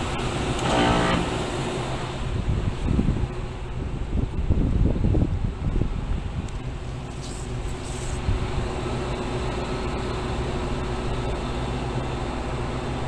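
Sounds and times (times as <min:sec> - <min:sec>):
chiller humming: 0:00.0 - 0:13.0.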